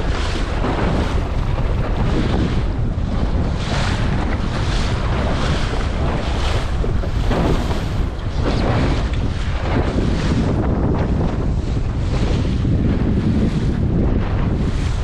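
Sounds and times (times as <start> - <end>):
waves splashing against boat: 0.0 - 15.0
wind buffeting microphone: 0.0 - 15.0.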